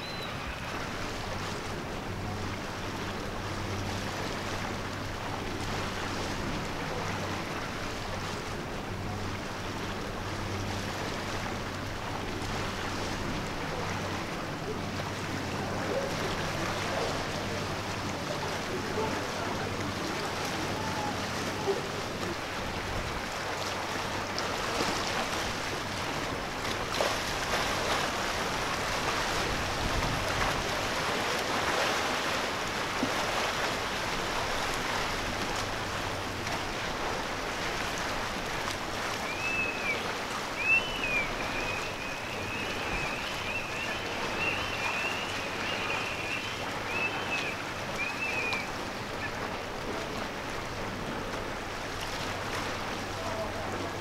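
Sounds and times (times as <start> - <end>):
water and waves rushing: 0.0 - 54.0
wind: 0.0 - 54.0.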